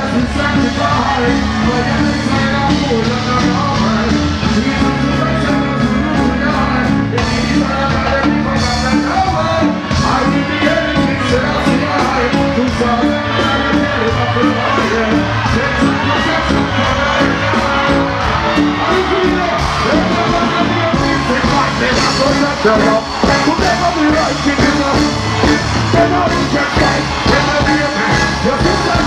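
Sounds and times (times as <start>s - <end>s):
live reggae music: 0.0s - 29.0s.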